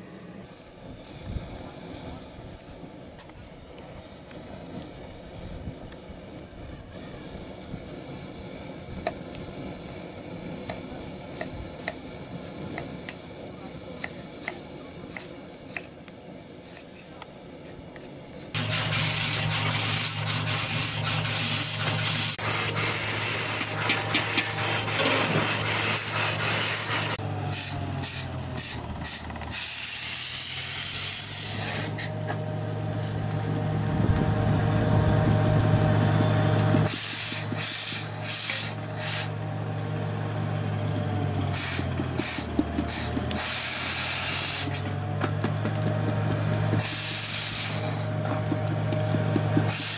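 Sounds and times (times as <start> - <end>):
stove burner hissing: 0.0 - 49.9.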